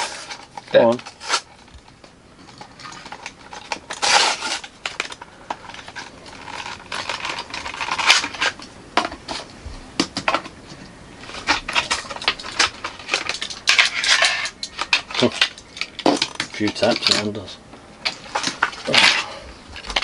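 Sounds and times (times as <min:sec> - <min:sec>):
plastic and cardboard crinkling: 0:00.0 - 0:20.0.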